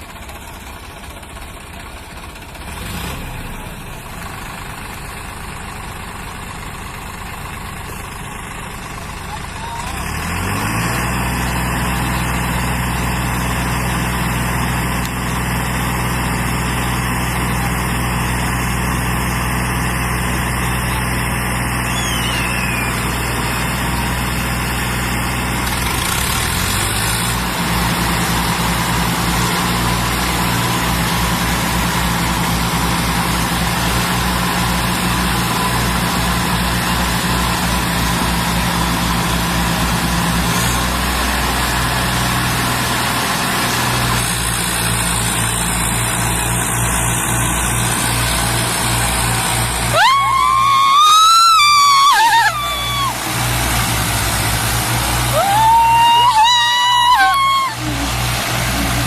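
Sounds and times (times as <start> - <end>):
diesel tractor engines running hard: 0.0 - 59.0.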